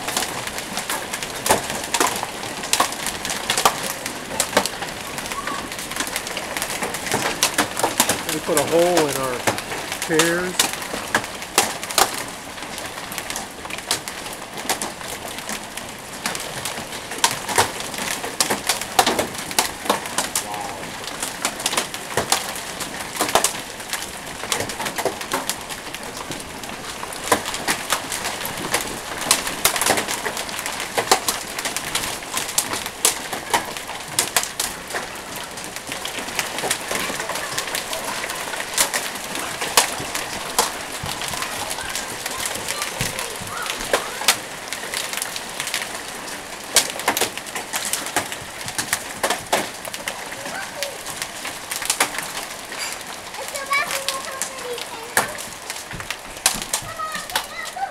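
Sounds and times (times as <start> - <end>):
hailstones striking ground: 0.0 - 57.9.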